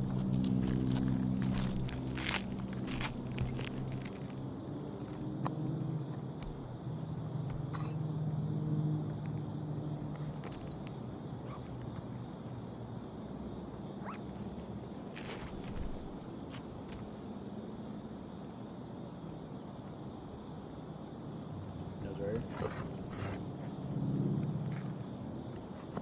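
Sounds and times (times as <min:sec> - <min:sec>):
high continuous buzz: 0:00.0 - 0:26.0.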